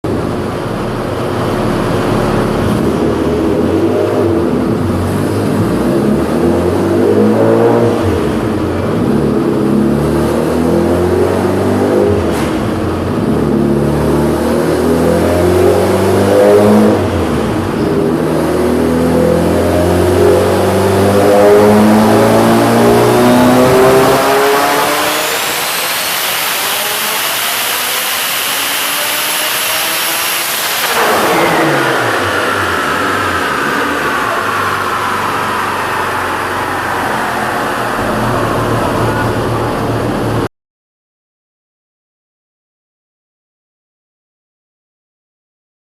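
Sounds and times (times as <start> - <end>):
car engine accelerating hard: 0.1 - 40.5.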